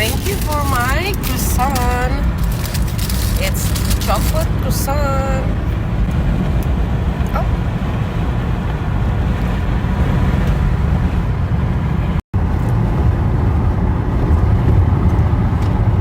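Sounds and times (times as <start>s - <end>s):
car cabin road and engine noise: 0.0s - 16.0s.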